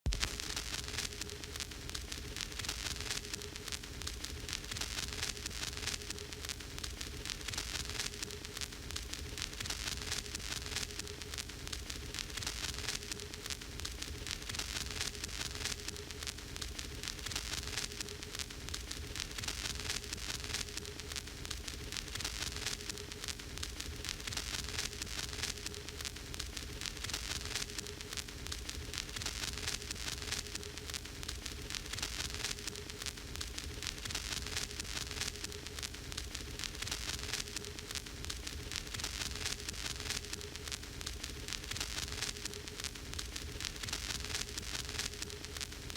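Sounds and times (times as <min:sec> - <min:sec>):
faint steady hum: 0:00.1 - 0:45.9
steady hiss: 0:00.1 - 0:45.9
vinyl surface crackle and pops: 0:00.1 - 0:45.9.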